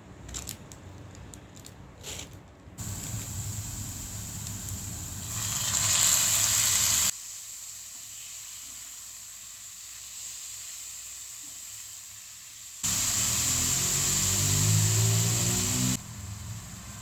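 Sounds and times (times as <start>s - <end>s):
food sizzling in frying pan: 2.8s - 17.0s.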